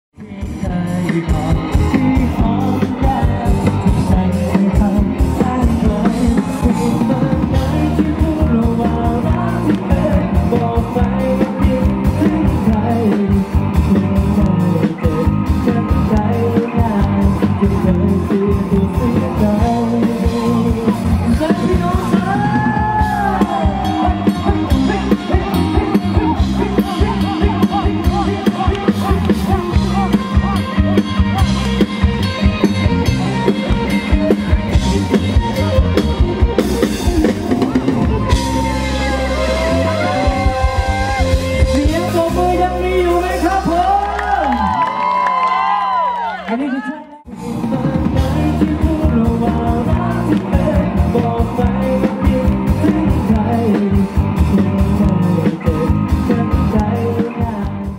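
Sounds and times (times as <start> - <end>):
electric guitar: 0.1 - 57.9
drum kit beat: 0.2 - 44.0, 47.4 - 57.9
person singing: 0.2 - 57.9.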